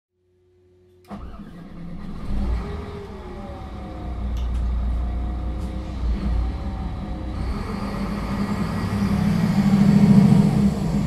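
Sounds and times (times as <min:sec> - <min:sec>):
bus engine starting and idling: 0:01.0 - 0:11.0.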